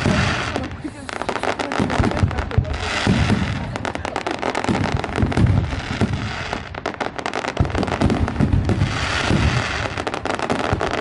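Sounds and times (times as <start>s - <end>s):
fireworks booming: 0.0s - 11.0s
fireworks crackling and popping: 0.0s - 11.0s.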